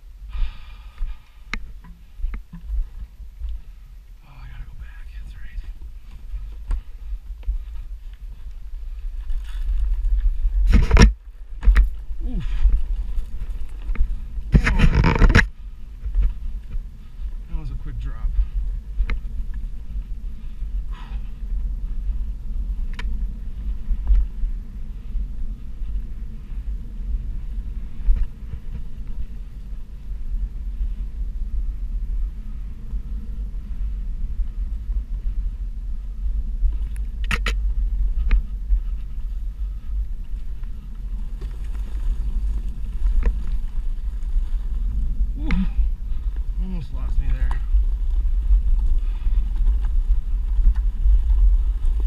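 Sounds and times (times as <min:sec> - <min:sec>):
electric board rumbling over dirt: 0:00.0 - 0:52.0
wind on microphone: 0:00.0 - 0:52.0.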